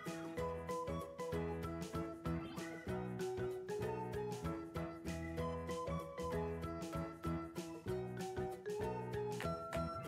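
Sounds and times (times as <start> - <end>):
light instrumental tune: 0.0 - 10.0.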